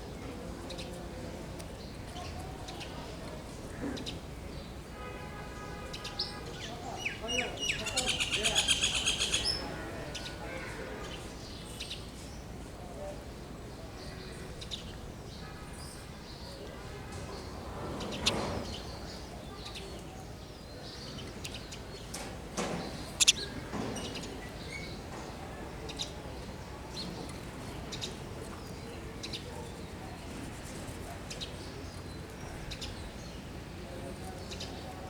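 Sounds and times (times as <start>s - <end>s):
sparrows chirping: 5.9s - 12.6s, 13.3s - 35.0s.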